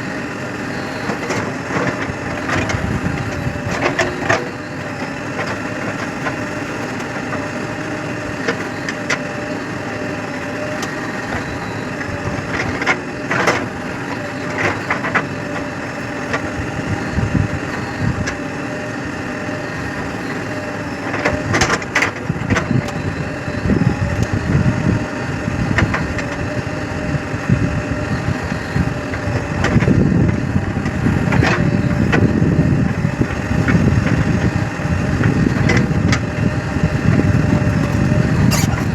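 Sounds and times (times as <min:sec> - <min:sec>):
heavy machinery diesel engine: 0:00.0 - 0:38.9.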